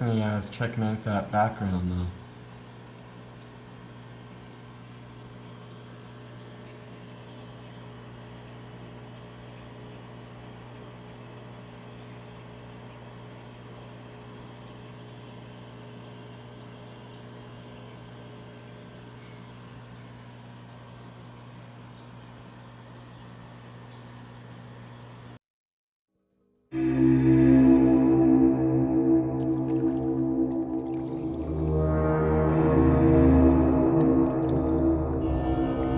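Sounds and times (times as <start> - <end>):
low electrical hum: 0.0 - 25.4, 26.8 - 35.9.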